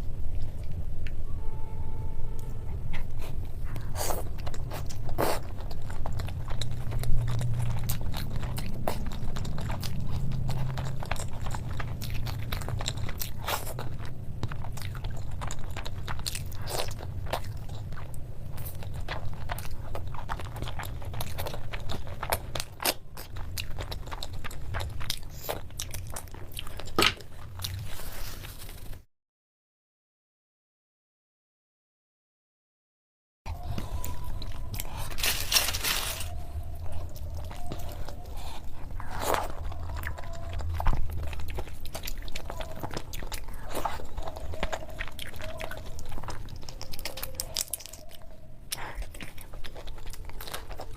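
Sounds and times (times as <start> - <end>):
person chewing food: 2.4 - 28.9, 33.5 - 50.9.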